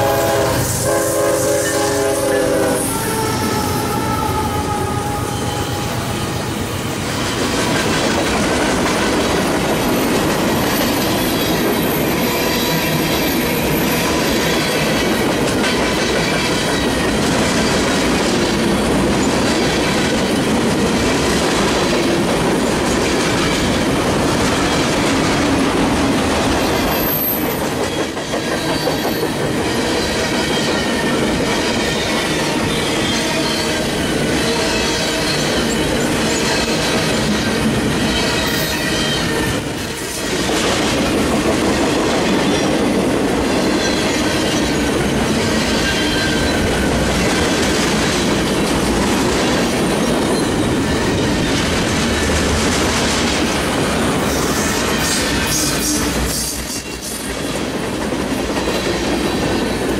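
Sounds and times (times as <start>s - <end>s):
train wheels rumbling and clattering: 0.0s - 59.9s.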